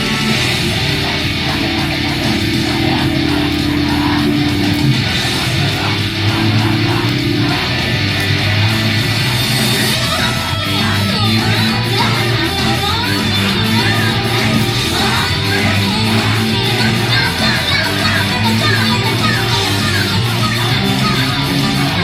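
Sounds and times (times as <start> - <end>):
live pop song with electric guitar: 0.0 - 22.0.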